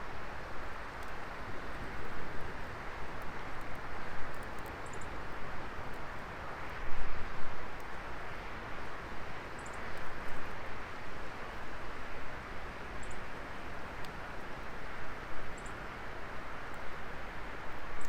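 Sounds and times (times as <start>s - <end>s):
wood fire hissing and crackling: 0.3s - 18.0s.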